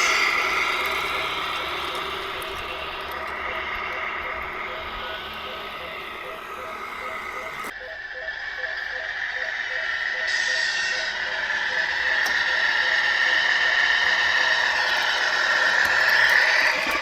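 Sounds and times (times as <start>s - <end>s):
small electric motors whirring: 0.0s - 7.8s, 8.6s - 17.0s.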